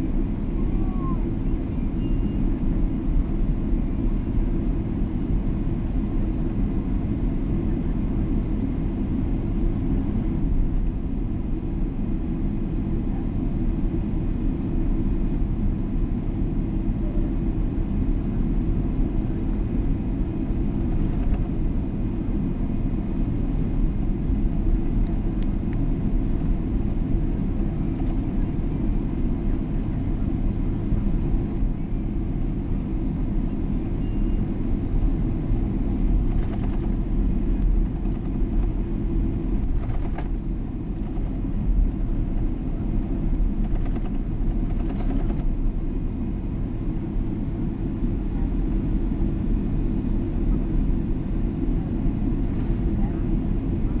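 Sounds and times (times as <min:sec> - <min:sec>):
airliner cabin engine rumble: 0:00.0 - 0:54.0
faint steady whine: 0:00.0 - 0:54.0.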